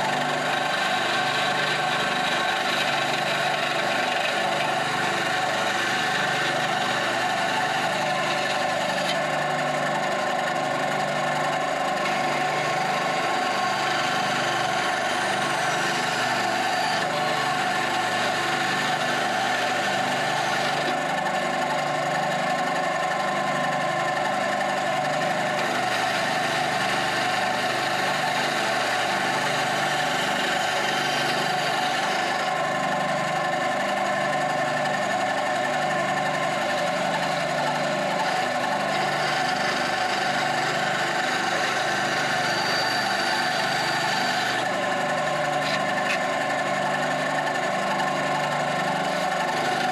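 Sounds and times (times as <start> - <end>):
bandsaw cutting wood: 0.0 - 49.9.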